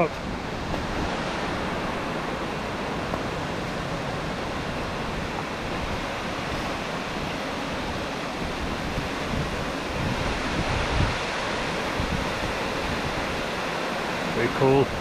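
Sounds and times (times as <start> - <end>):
waterfall roaring: 0.0 - 15.0
wind buffeting microphone: 0.0 - 15.0.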